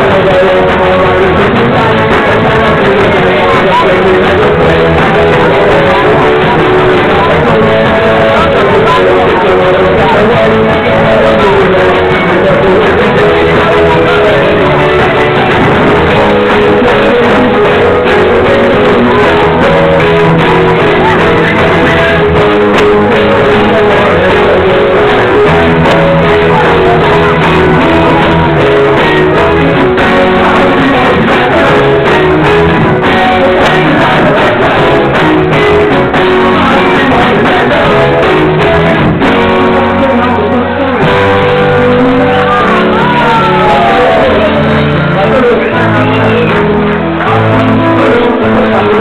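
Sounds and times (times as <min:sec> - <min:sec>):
bass guitar: 0:00.0 - 0:49.0
drums: 0:00.0 - 0:49.0
electric guitars: 0:00.0 - 0:49.0.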